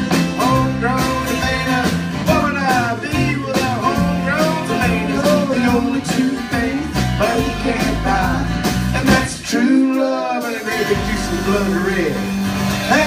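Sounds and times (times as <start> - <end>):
country band playing: 0.0 - 13.0
upright double bass: 0.0 - 13.0.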